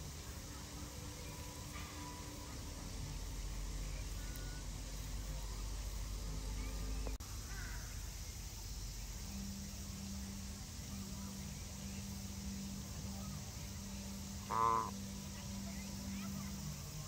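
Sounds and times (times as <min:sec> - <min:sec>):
low outdoor rumble: 0:00.0 - 0:17.0
low steady hum: 0:00.0 - 0:17.0.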